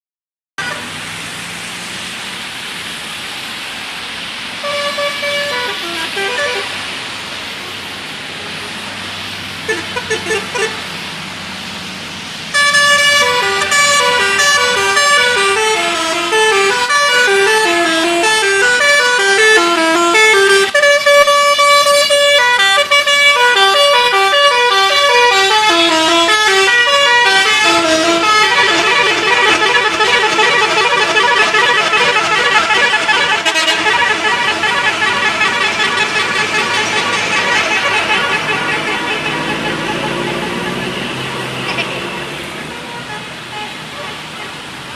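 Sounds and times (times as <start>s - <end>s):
multi-tone bus horn melody: 0.6s - 1.0s, 4.6s - 7.0s, 9.6s - 11.0s, 12.5s - 44.7s
vehicle noise: 0.6s - 44.9s.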